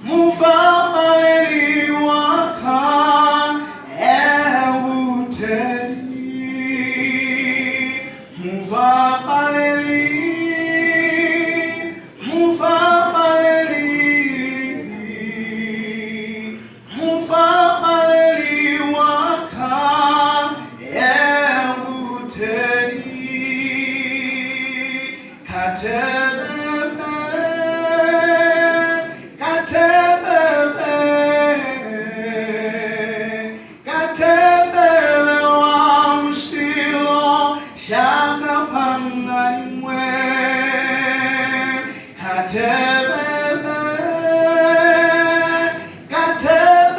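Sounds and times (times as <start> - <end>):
gospel choir singing: 0.0 - 46.9.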